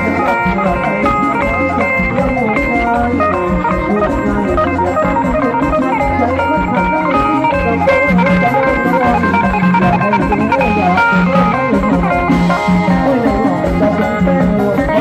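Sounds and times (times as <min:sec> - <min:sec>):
bass: 0:00.0 - 0:15.0
drum beat: 0:00.0 - 0:15.0
electronic organ: 0:00.0 - 0:15.0
guitar: 0:00.0 - 0:15.0.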